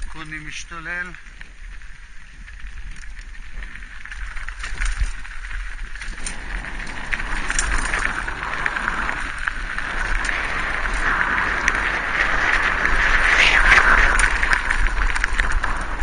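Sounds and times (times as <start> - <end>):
bike clicks and rattles: 0.0 - 16.0
tyres crunching on gravel: 0.0 - 16.0
wind rushing over microphone: 0.0 - 16.0.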